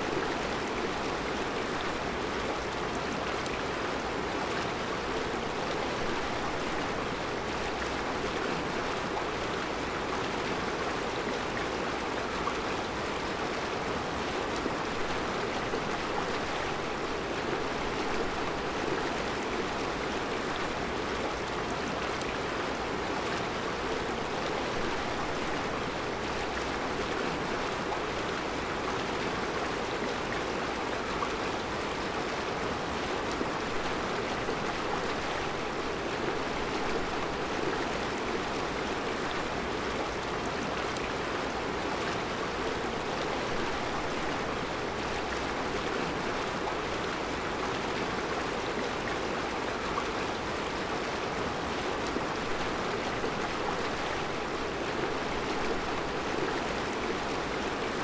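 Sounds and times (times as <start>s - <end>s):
river flowing over rocks: 0.0s - 58.0s.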